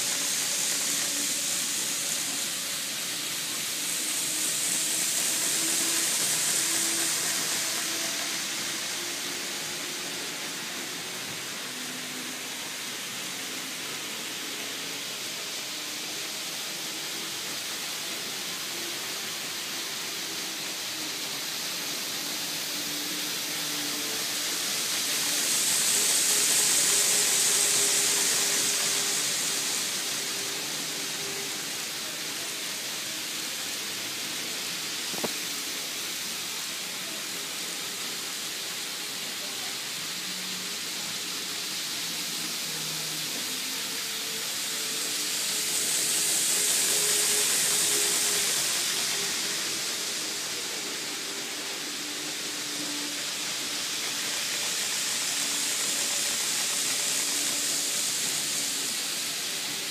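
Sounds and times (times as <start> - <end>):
model train wheels hissing on rail: 0.0 - 59.9.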